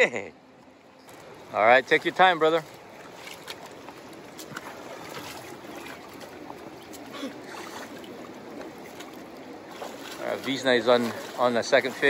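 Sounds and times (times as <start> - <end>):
river water rushing: 0.5 - 12.0
faint splashes: 0.7 - 12.0.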